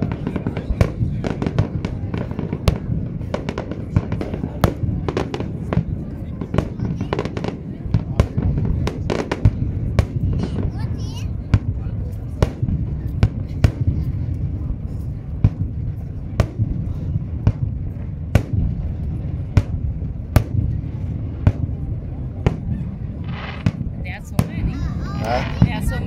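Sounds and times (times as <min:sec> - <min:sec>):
fireworks banging: 0:00.0 - 0:26.0.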